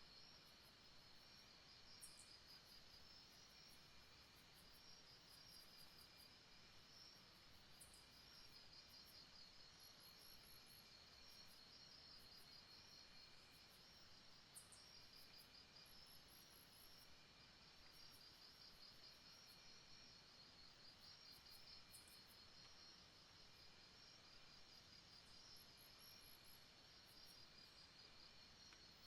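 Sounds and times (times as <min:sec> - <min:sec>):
lower insect chirp: 0:00.0 - 0:29.0.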